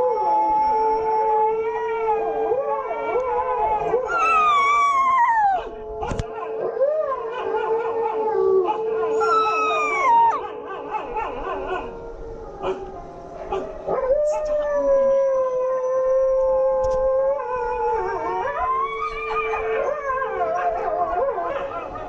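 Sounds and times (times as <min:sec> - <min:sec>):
dogs howling: 0:00.0 - 0:22.0.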